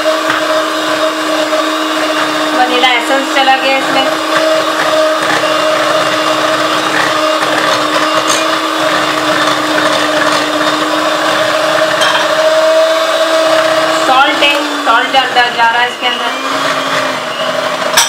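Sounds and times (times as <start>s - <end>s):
electric hand mixer whining: 0.0s - 18.0s.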